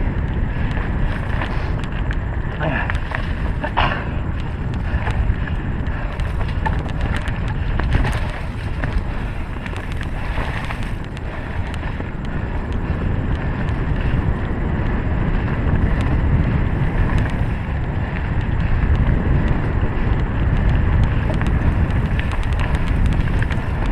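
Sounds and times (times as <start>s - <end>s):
bike clicks and rattles: 0.0s - 23.9s
tyre noise on dirt: 0.0s - 23.9s
wind on microphone: 0.0s - 23.9s.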